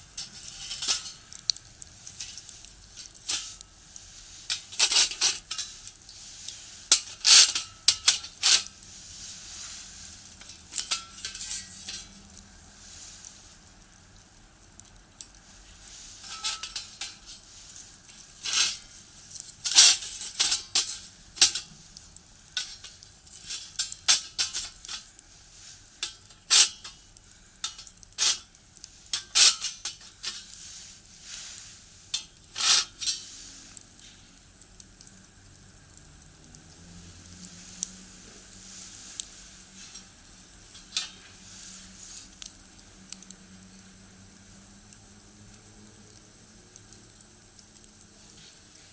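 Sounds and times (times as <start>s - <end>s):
firewood crackling in a stove: 0.0s - 48.9s.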